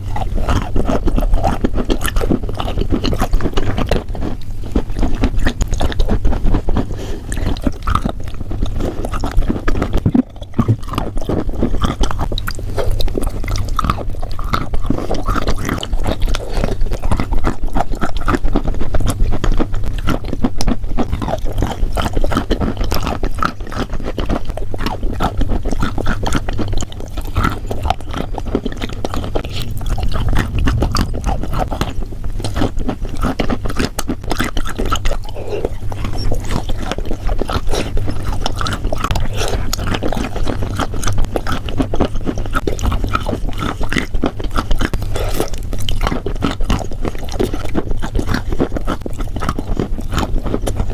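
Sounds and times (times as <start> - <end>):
person chewing crisp food: 0.0 - 50.9.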